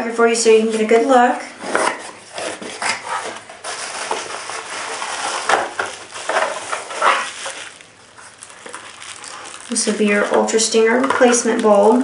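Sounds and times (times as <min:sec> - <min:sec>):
bubble wrap crinkling: 0:02.0 - 0:12.0.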